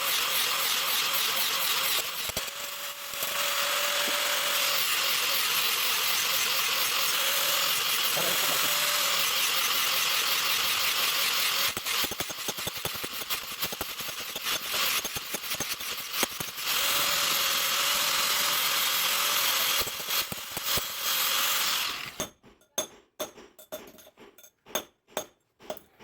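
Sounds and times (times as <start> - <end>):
power grinder grinding steel: 0.0 - 22.2.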